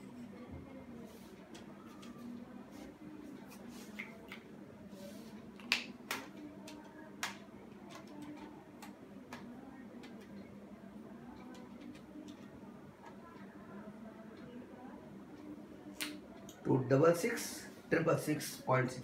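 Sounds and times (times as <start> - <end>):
faint room noise: 0.0 - 19.0.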